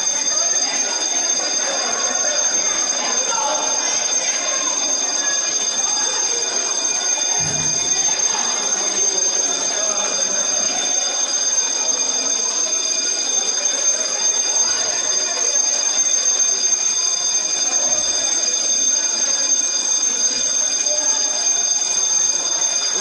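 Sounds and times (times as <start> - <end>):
alarm bell ringing: 0.0 - 23.0
crowd chatter: 0.0 - 23.0.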